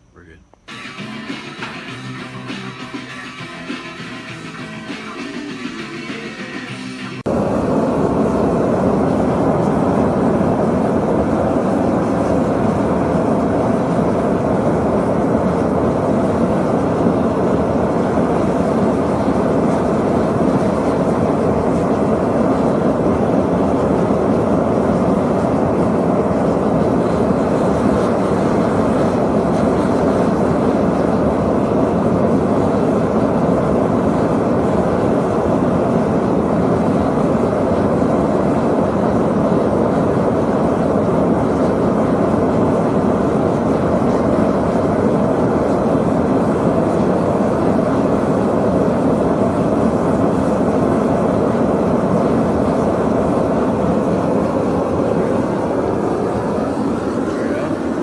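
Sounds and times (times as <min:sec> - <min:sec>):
forge rushing noise: 0:00.7 - 0:58.0.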